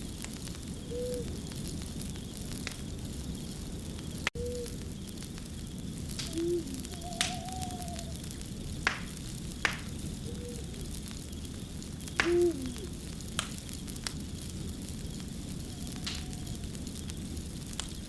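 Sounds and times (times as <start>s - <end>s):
fire popping: 0.0s - 18.0s
steady low rumble: 0.0s - 18.0s
wood fire crackling: 0.0s - 18.0s.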